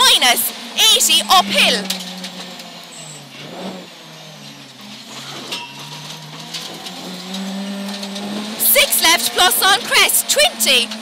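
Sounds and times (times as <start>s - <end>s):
car engine revving: 0.0s - 11.0s
road and tyre noise: 0.0s - 11.0s.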